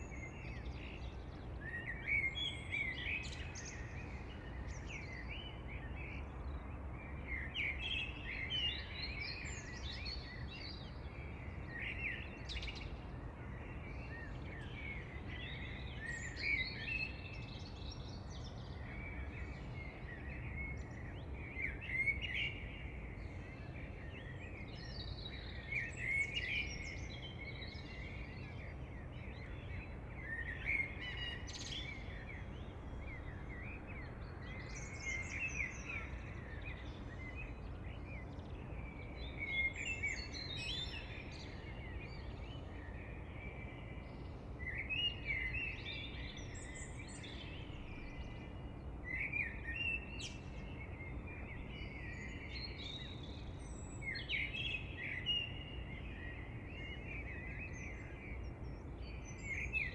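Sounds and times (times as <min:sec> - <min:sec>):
low background hiss: 0:00.0 - 0:59.9
songbirds singing: 0:00.0 - 0:59.9.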